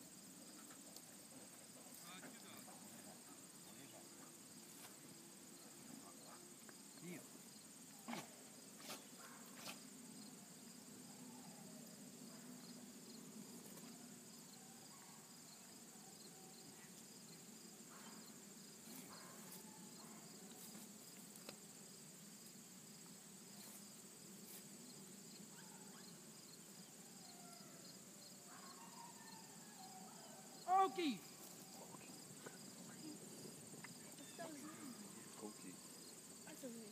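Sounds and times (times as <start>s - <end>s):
high-pitched insect chorus: 0.0s - 36.9s.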